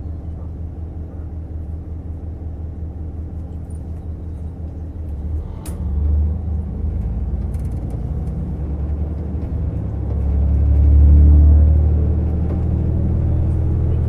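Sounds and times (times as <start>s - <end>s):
diesel railcar engine and rail rumble: 0.0s - 14.0s.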